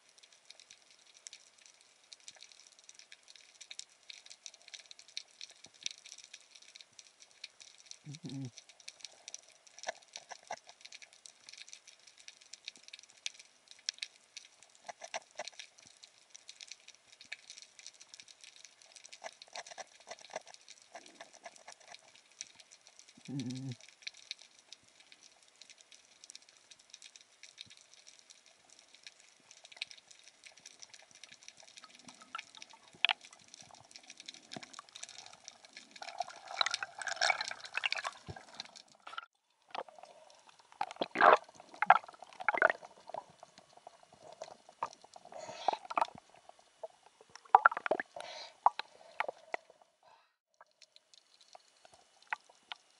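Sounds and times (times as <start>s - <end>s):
underwater crackle of clicks: 0.0s - 49.9s, 50.5s - 52.9s.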